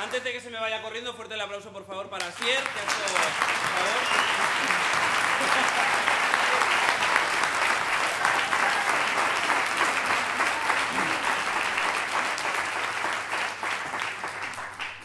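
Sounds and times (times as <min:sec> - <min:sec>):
audience applauding: 0:00.0 - 0:00.4, 0:02.2 - 0:15.0.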